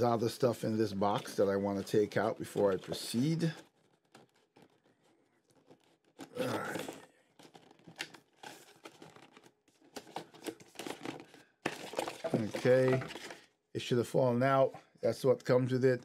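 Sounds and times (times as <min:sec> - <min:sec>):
cardboard scraping and rustling: 0:00.0 - 0:13.4.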